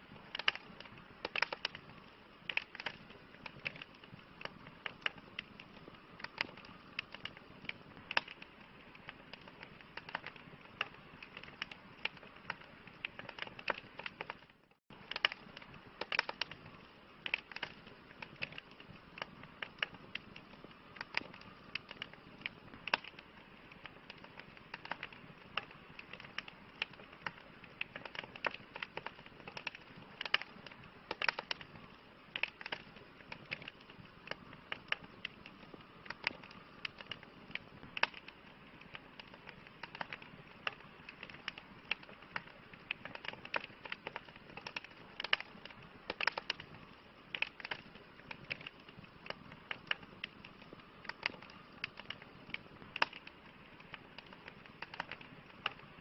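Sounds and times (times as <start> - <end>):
burning wood hissing: 0.0 - 56.0
campfire crackling: 0.0 - 56.0.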